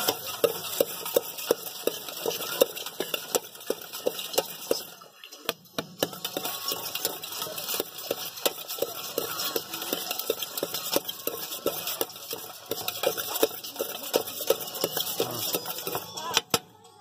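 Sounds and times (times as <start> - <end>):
fruit knocking in steel container: 0.0 - 16.6.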